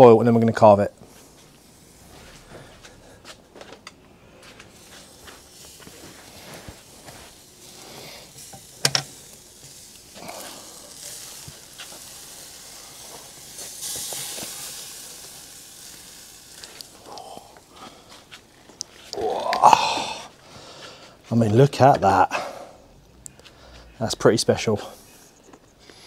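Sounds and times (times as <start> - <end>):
hissing sizzle: 0.0 - 26.0.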